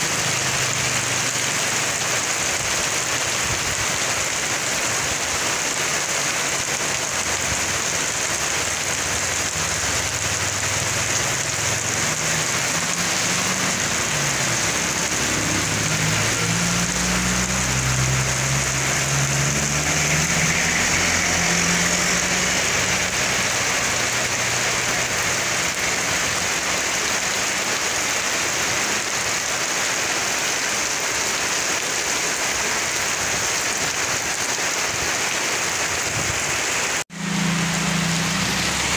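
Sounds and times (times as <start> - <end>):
heavy rain on asphalt: 0.0 - 38.9
truck driving past on wet road: 0.0 - 38.9.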